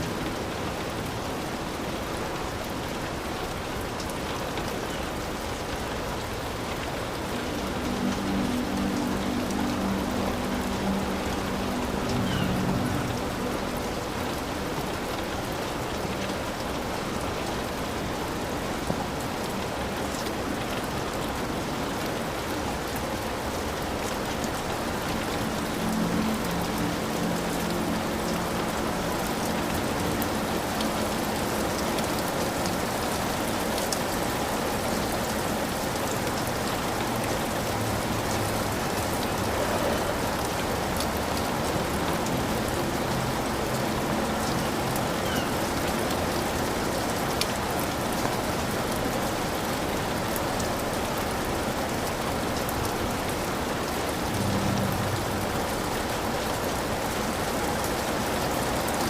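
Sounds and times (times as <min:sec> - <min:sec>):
heavy rain on a hut: 0:00.0 - 0:59.0.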